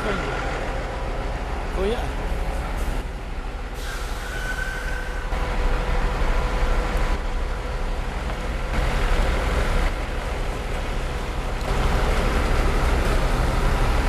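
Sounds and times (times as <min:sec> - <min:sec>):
heavy truck engine rumble: 0:00.0 - 0:14.0
road noise: 0:00.0 - 0:14.0.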